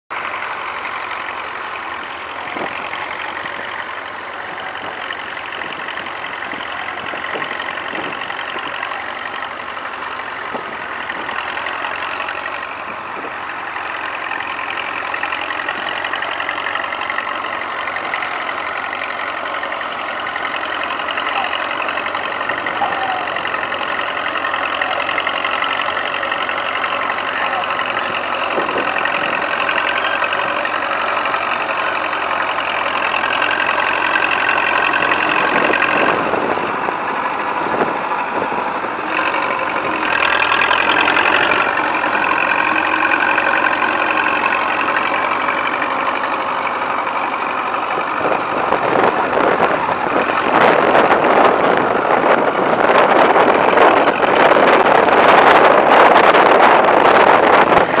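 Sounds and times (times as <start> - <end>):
tractor diesel engine under load: 0.0 - 58.0
exhaust cracking: 0.1 - 58.0.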